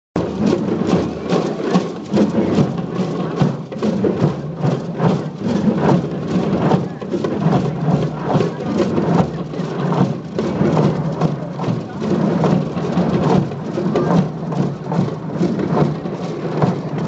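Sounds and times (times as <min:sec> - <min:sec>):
hand drums beaten together: 0:00.2 - 0:17.0.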